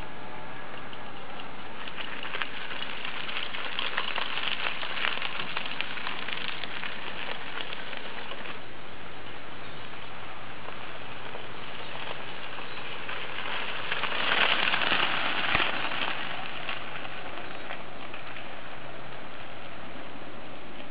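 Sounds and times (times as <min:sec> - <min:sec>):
steady hiss: 0:00.0 - 0:20.9
tyres crackling over gravel: 0:00.6 - 0:20.9.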